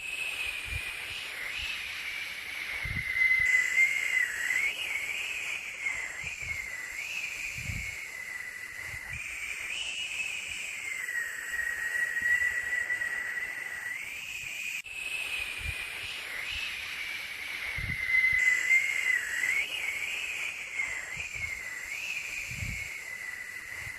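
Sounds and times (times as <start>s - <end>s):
wavering high whistling tone: 0.0s - 23.9s
white noise hiss: 0.0s - 23.9s.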